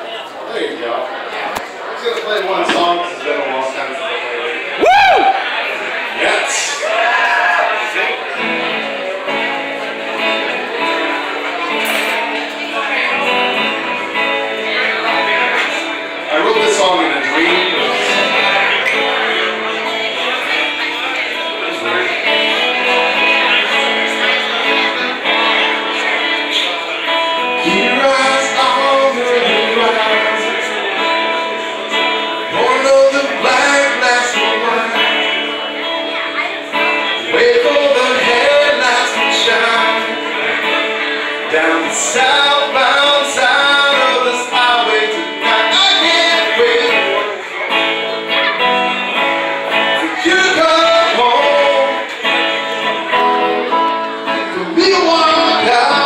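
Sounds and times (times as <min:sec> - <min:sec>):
acoustic guitar: 0:00.0 - 0:56.0
man singing: 0:10.2 - 0:20.8, 0:21.4 - 0:56.0.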